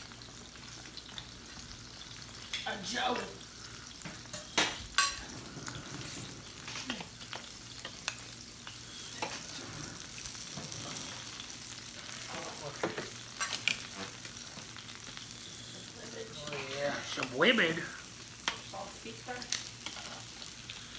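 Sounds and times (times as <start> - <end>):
meat sizzling on a grill: 0.0 - 20.9.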